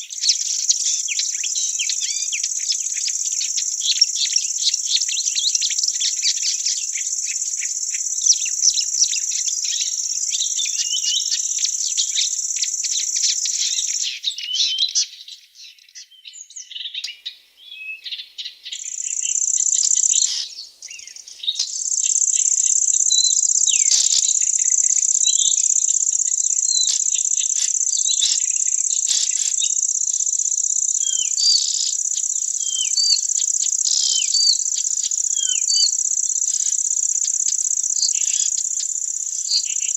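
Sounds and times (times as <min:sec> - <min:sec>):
insects trilling: 0:00.0 - 0:14.2, 0:18.4 - 0:39.9
bird chirps: 0:00.0 - 0:39.9.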